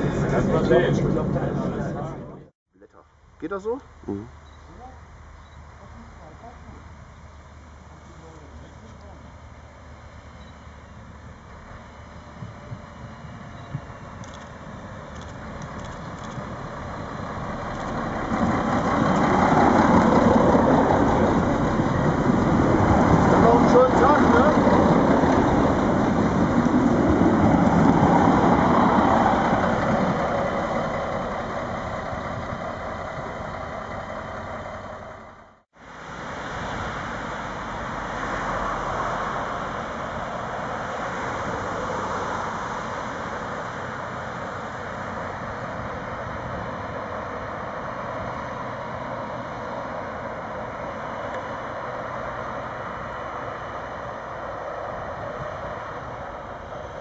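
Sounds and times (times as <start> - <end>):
diesel railcars passing: 0.0 - 57.0.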